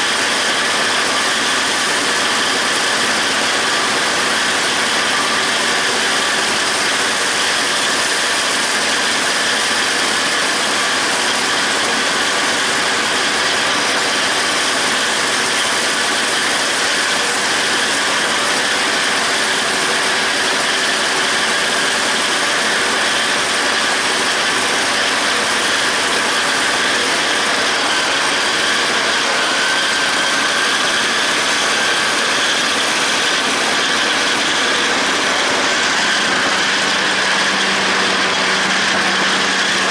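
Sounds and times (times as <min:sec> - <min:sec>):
mower mechanical whir: 0:00.0 - 0:39.9
tractor diesel engine running: 0:00.0 - 0:39.9.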